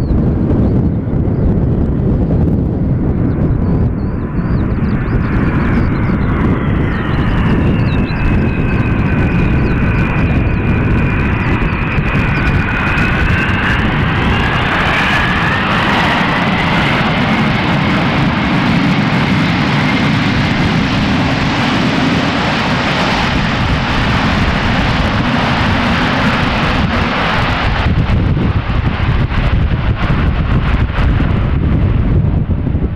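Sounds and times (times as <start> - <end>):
heavy rumble: 0.0 - 32.9
jet engines whining: 0.0 - 32.9.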